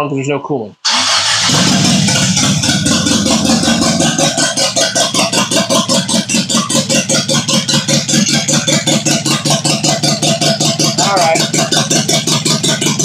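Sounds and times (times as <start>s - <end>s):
car engine idling: 0.9s - 13.0s.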